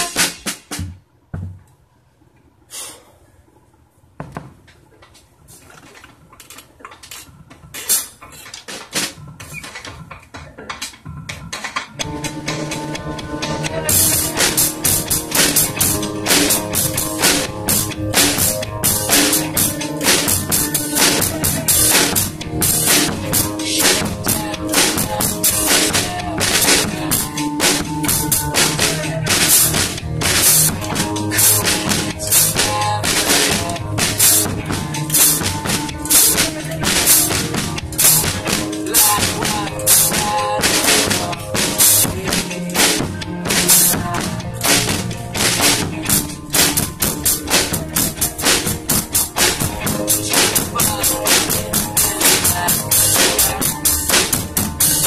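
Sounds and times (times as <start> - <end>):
drum fill on drum kit: 0.0 - 1.6, 7.8 - 55.0
music from radio: 7.7 - 55.0.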